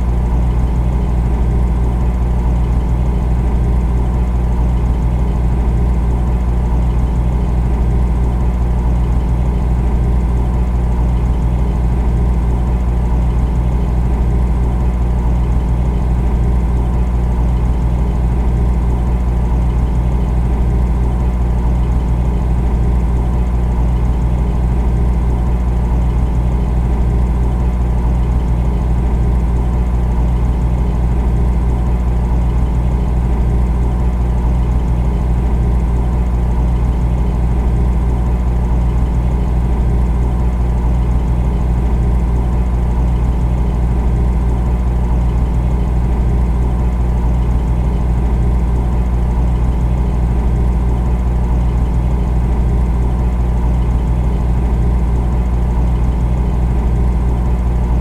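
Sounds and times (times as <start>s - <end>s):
refrigerator compressor hum: 0.0s - 58.0s.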